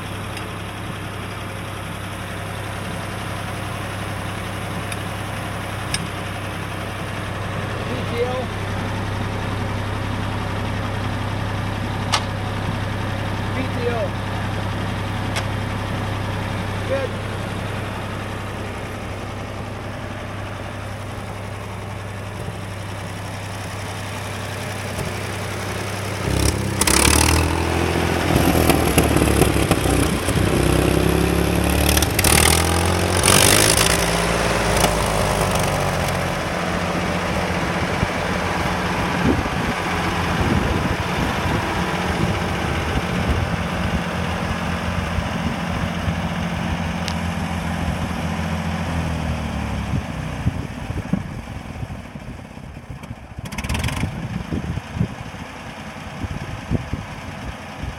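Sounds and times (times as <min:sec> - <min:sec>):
tractor engine revving: 0:00.0 - 0:57.9.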